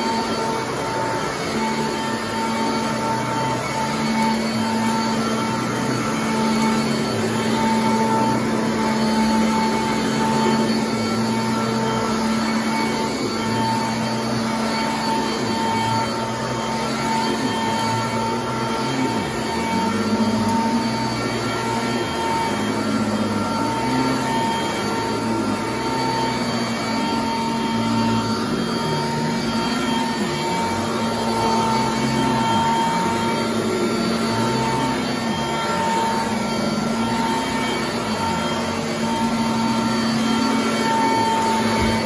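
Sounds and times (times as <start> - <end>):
upright vacuum motor hum: 0.0 - 42.0.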